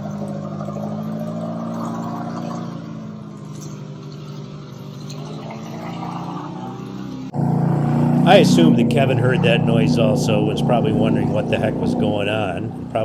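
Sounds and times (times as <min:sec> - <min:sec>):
vehicle engine running in water: 0:00.0 - 0:13.0.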